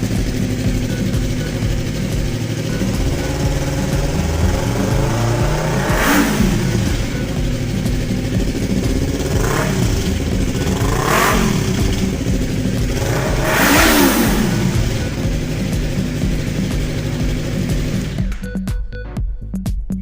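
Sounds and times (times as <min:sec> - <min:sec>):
motorcycle throttle blips: 0:00.0 - 0:19.0
motorcycle engine idling: 0:00.0 - 0:19.7.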